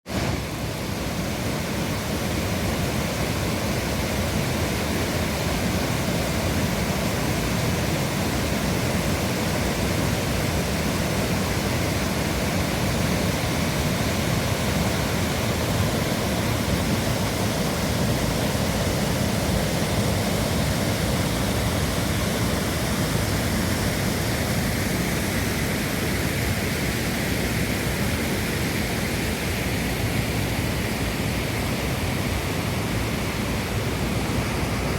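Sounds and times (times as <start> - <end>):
waterfall crashing into pool: 0.0 - 34.9.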